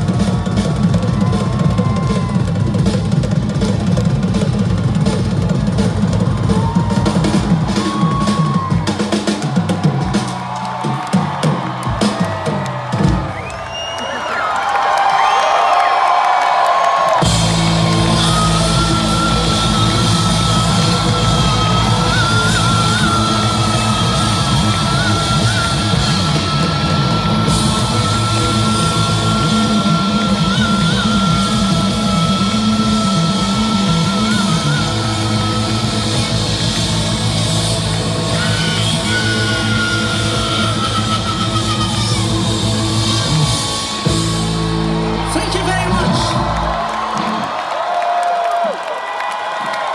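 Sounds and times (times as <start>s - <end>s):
live rock band playing: 0.0s - 13.6s, 17.0s - 47.6s.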